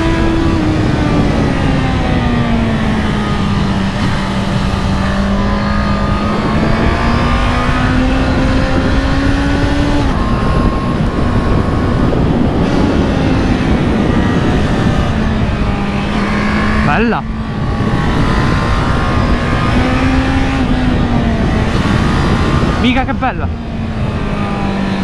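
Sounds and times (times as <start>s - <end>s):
motorcycle engine pulling under load: 0.0s - 22.9s
heavy wind rush: 0.0s - 25.0s.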